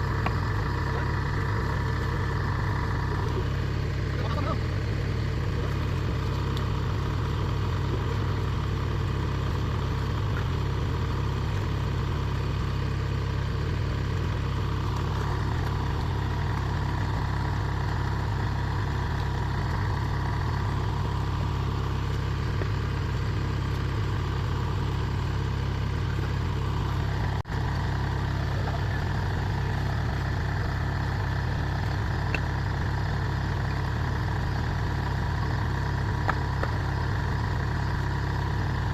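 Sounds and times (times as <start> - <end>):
combine harvester diesel engine running: 0.0 - 38.9.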